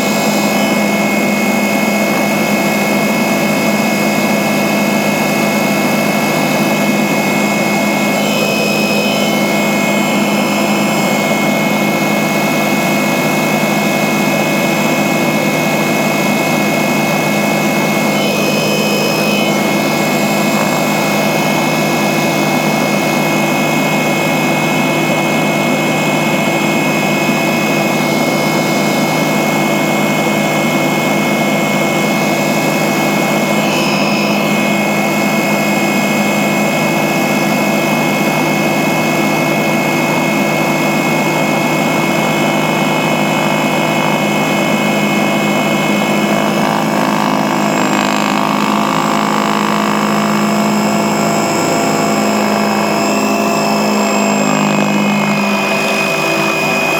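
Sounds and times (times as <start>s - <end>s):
helicopter engine and rotor noise: 0.0s - 56.9s
steady whining tones: 0.0s - 56.9s.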